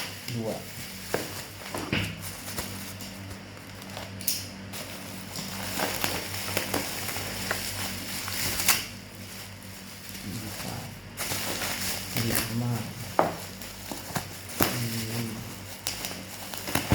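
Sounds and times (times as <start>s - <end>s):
packaging clicks and rustles: 0.7s - 16.9s.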